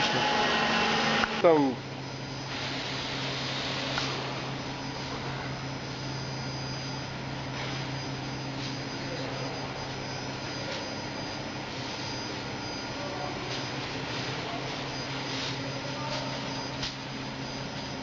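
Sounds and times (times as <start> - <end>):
workshop equipment humming: 0.0 - 18.0.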